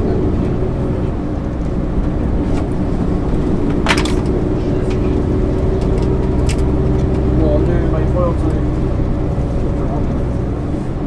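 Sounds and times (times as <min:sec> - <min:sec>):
bus engine drone: 0:00.0 - 0:11.0
road rumble: 0:00.0 - 0:11.0.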